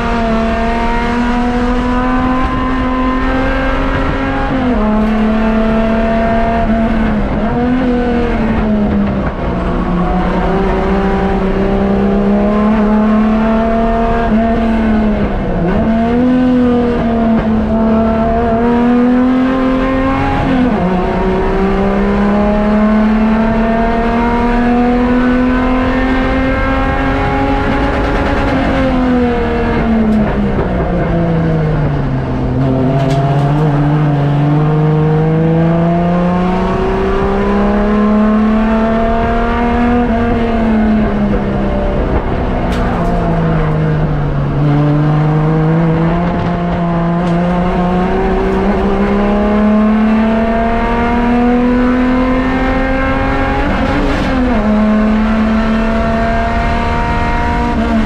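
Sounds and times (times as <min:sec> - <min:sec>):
racing engine revving: 0:00.0 - 0:58.0.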